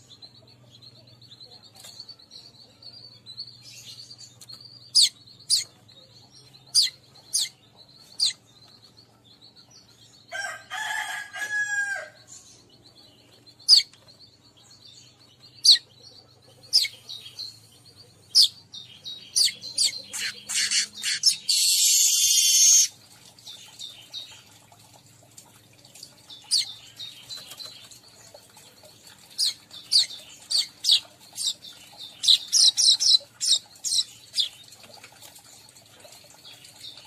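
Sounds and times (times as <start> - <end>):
weaver birds chipping: 0.0 - 37.0.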